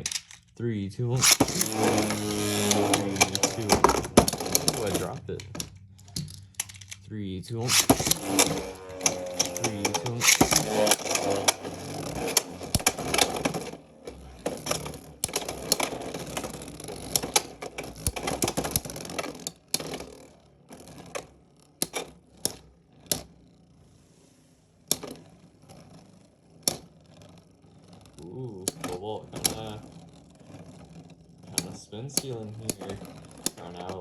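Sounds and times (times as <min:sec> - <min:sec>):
spinning tops clacking: 0:00.0 - 0:23.8, 0:24.9 - 0:34.0
spinning tops rattling and scraping: 0:00.0 - 0:34.0.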